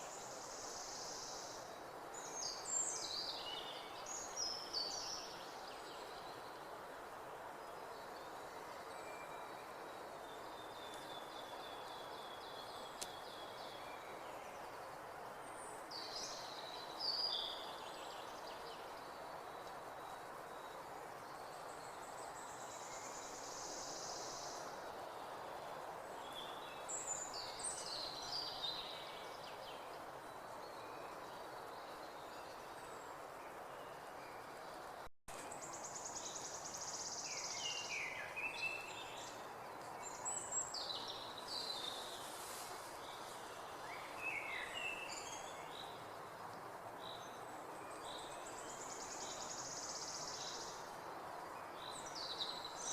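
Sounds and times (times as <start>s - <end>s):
songbirds singing: 0.0s - 52.9s.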